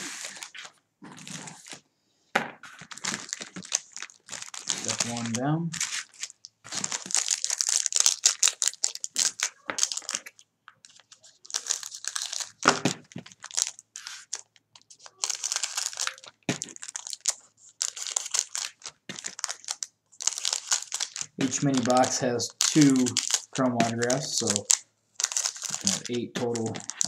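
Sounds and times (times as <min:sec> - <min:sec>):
foil wrappers crinkling: 0:00.0 - 0:01.8, 0:02.6 - 0:27.0.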